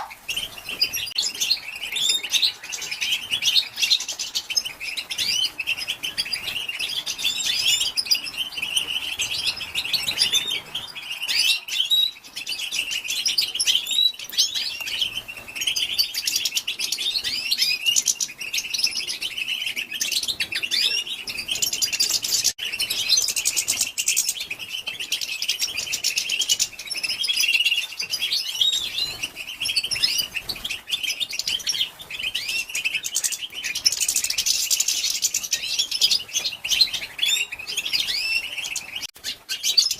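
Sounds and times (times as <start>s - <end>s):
goldfinch twittering: 0.0s - 39.9s.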